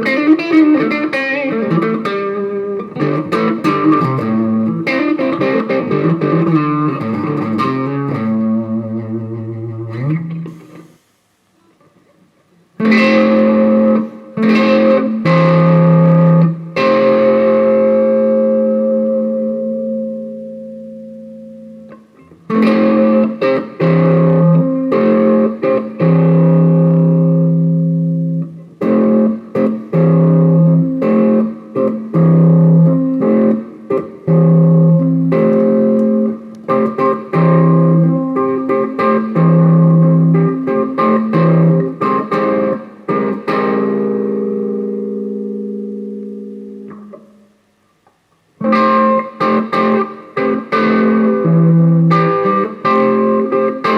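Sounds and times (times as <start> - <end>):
distorted electric guitar chords: 0.0 - 11.0, 12.7 - 53.9.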